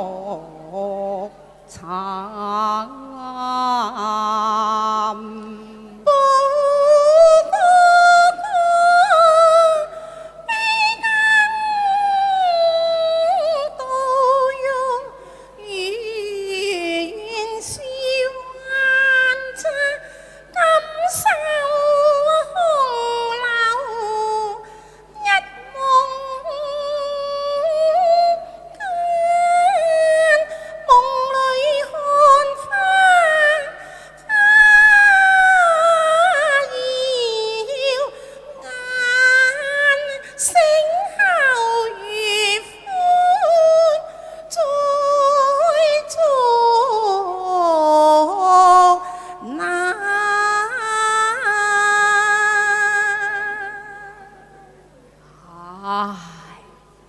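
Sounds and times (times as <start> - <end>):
women singing opera through microphones: 0.0 - 54.2.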